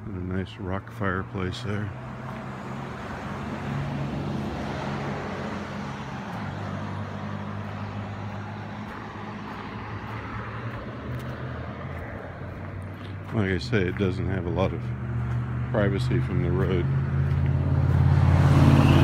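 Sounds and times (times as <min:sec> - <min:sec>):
car passing: 0:01.2 - 0:19.0.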